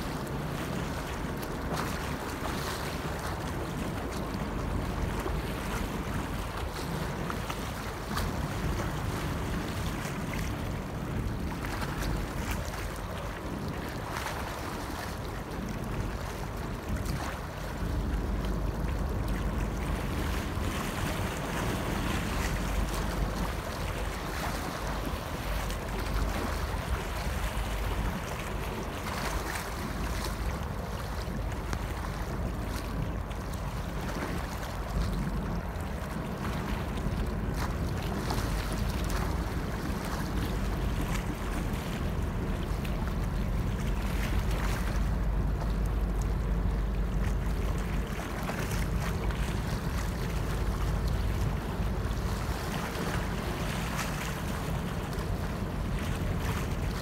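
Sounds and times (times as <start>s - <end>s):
boat engine rumbling: 0.0s - 57.0s
waves lapping: 0.0s - 57.0s
wind buffeting microphone: 0.0s - 57.0s.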